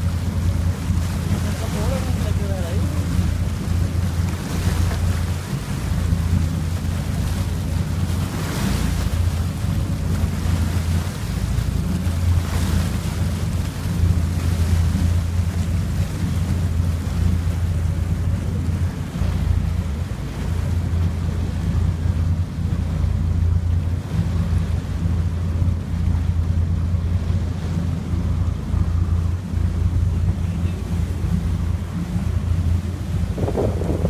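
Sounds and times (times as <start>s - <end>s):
water rushing past hull: 0.0s - 34.0s
wind buffeting microphone: 0.0s - 34.0s.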